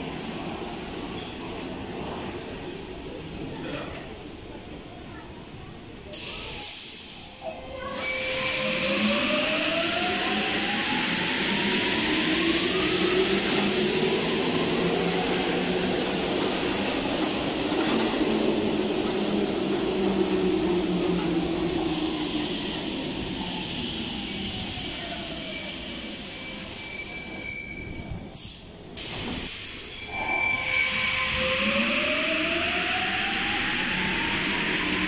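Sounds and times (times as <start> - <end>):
train rolling noise: 0.0 - 35.0.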